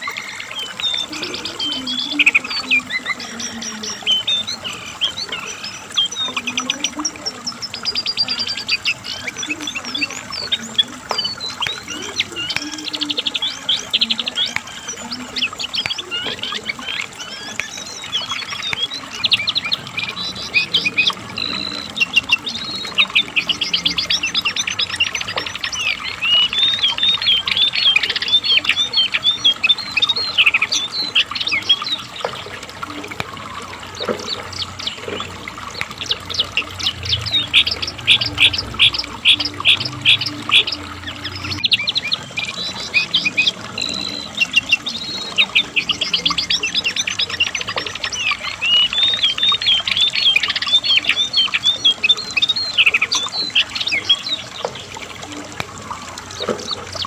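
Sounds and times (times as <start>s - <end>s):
bird singing chirps and trills: 0.0s - 57.0s.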